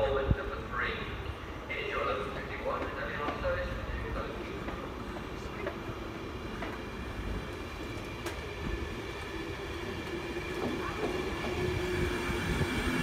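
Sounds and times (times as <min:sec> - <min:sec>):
train wheels running on rails: 0:01.5 - 0:13.0.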